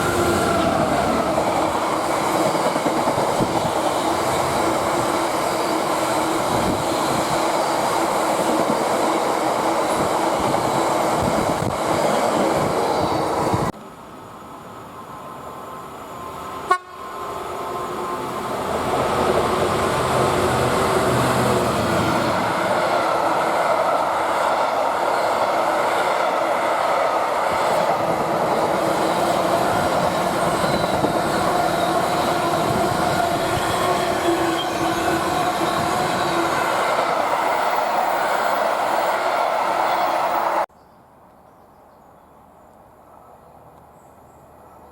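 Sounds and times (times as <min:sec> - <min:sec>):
train wheels rumbling on rails: 0:00.0 - 0:13.8, 0:16.4 - 0:40.7.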